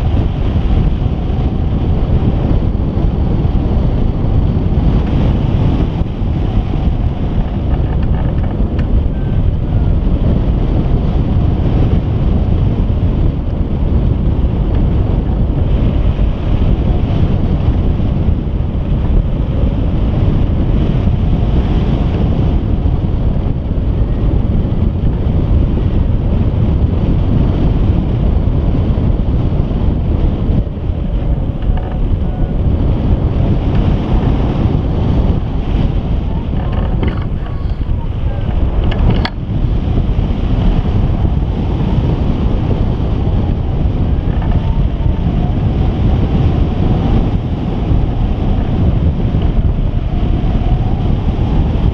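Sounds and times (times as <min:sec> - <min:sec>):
wind rushing over microphone: 0:00.0 - 0:51.9.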